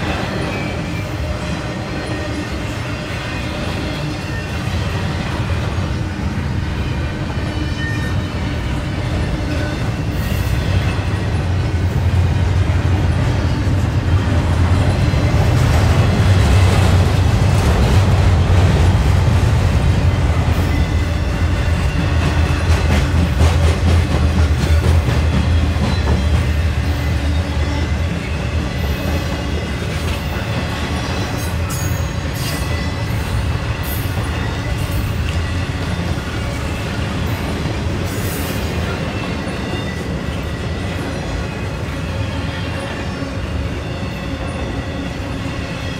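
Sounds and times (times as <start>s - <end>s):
freight train rumbling on rails: 0.0s - 45.9s.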